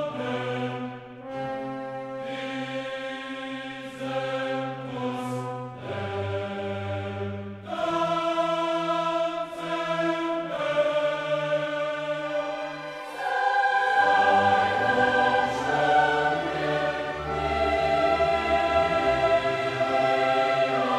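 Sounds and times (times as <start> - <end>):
choir singing long chords: 0.0 - 20.9.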